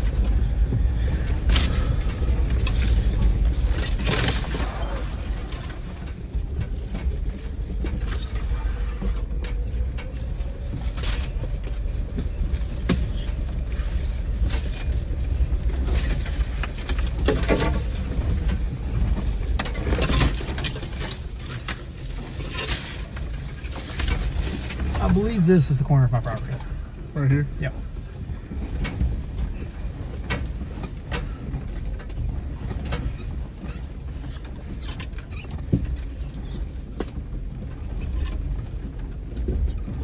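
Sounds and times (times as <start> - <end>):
knocks creaks and rattles: 0.0 - 40.0
off-road vehicle engine: 0.0 - 40.0.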